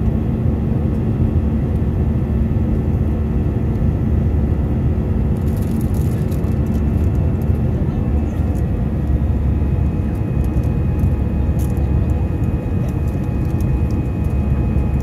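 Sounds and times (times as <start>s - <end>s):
faint steady whine: 0.0s - 15.0s
jet engine rumble: 0.0s - 15.0s.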